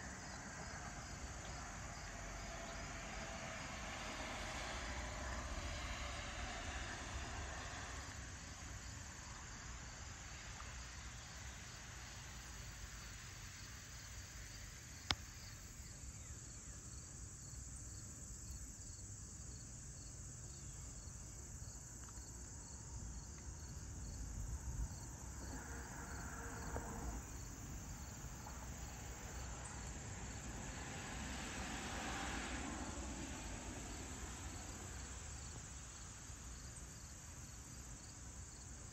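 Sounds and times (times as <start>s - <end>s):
insects chirping: 0.0s - 4.2s, 4.8s - 38.9s
road traffic passing: 0.0s - 15.8s, 22.0s - 38.8s.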